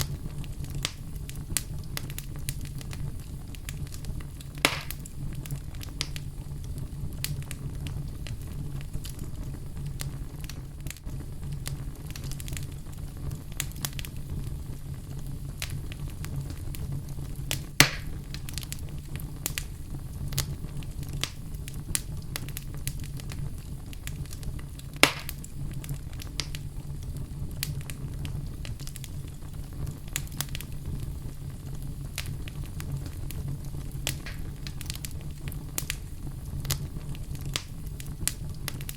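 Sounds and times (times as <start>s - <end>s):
fire crackling and popping: 0.0s - 38.9s
wood fire rumbling: 0.0s - 38.9s.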